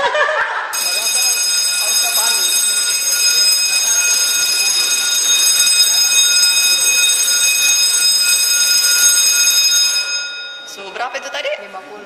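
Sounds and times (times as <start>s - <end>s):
fire alarm continuous high tone: 0.7s - 11.6s.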